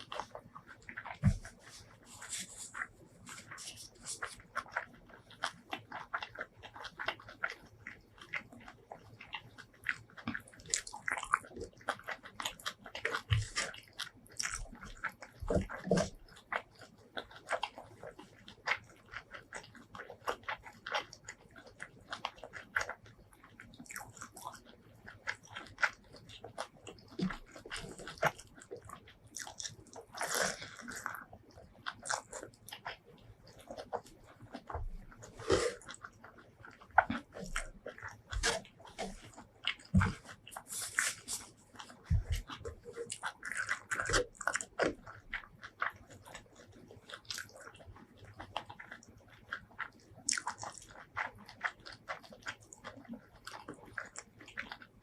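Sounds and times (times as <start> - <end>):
wet chewing and lip smacks: 0.0 - 55.0.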